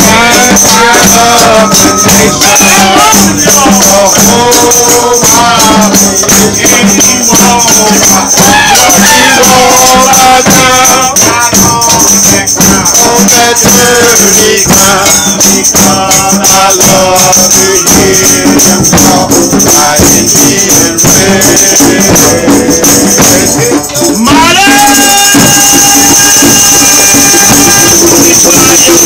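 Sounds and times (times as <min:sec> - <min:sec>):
hand drums: 0:00.0 - 0:29.0
shaker rattles: 0:00.0 - 0:29.0
voices singing: 0:00.0 - 0:29.0.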